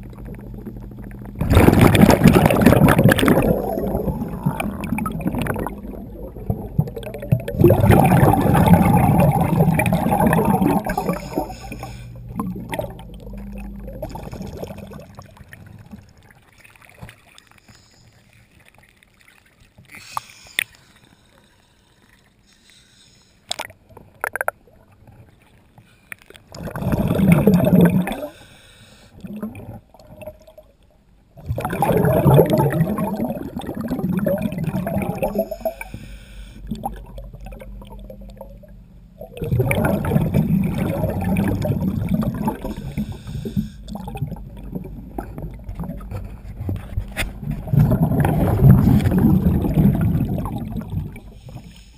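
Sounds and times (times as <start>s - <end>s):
water gurgling underwater: 0.0s - 17.6s, 26.2s - 28.4s, 29.2s - 36.0s, 36.6s - 51.7s.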